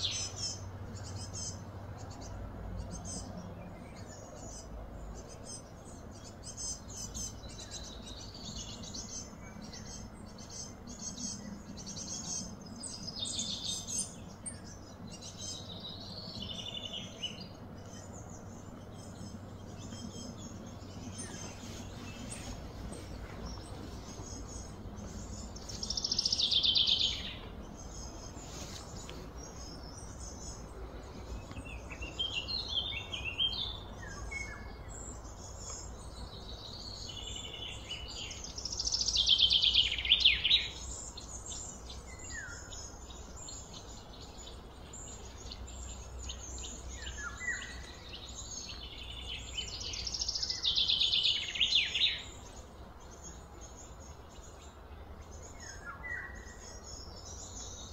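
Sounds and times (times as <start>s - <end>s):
high background hiss: 0.0s - 57.9s.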